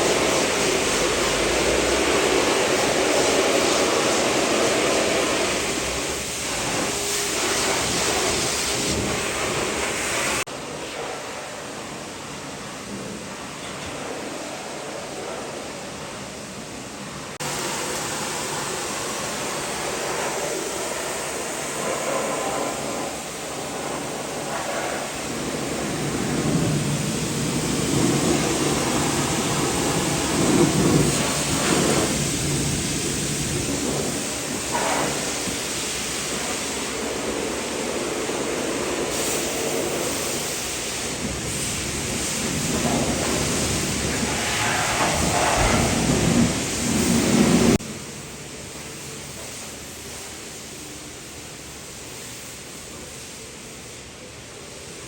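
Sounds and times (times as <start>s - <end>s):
pressure washer spraying water: 0.0s - 11.7s, 13.2s - 55.0s.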